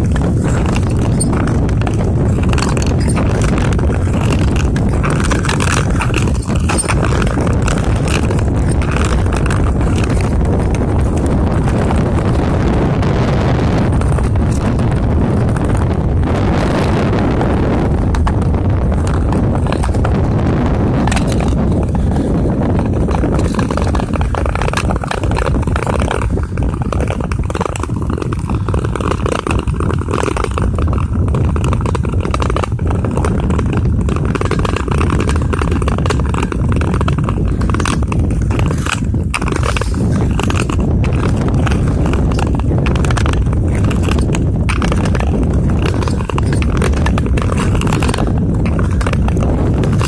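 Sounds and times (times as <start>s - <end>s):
skate blades scraping on ice: 0.0s - 50.0s
wind rumble on microphone: 0.0s - 50.0s.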